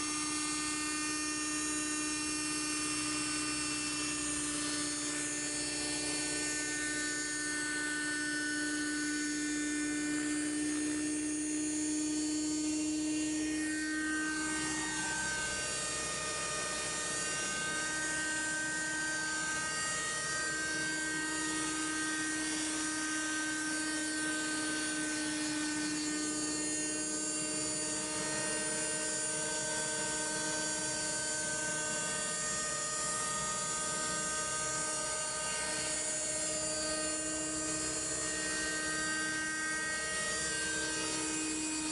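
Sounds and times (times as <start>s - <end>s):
model helicopter engine whine: 0.0s - 41.9s.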